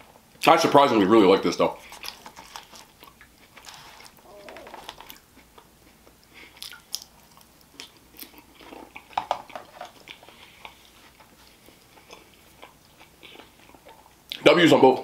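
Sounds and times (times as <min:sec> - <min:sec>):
person chewing food: 0:01.8 - 0:14.4.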